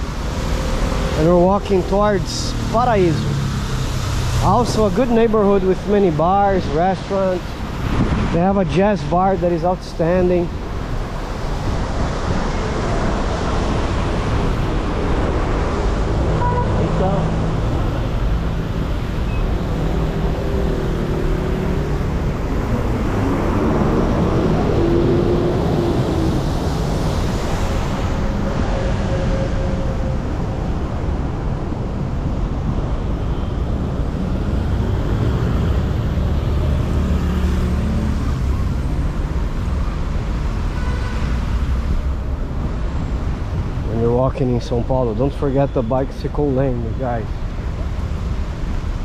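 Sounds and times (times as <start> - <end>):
cars passing on street: 0.0 - 49.0.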